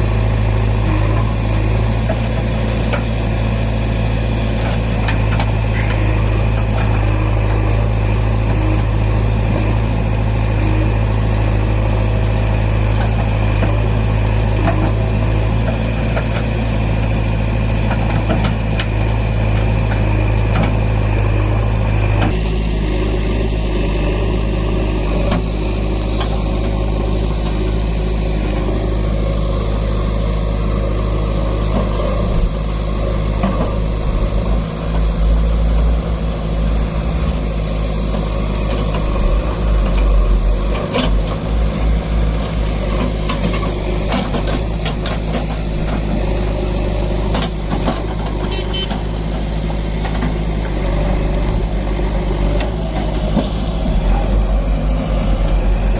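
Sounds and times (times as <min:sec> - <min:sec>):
heavy diesel engine humming: 0:00.0 - 0:55.9.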